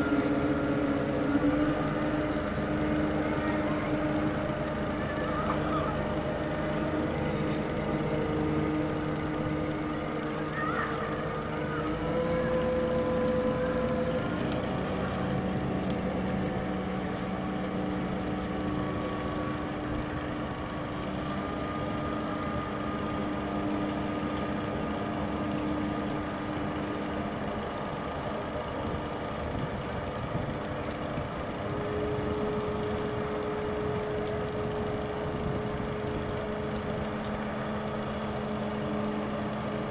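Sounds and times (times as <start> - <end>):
engine drone with humming tones: 0.0 - 39.9.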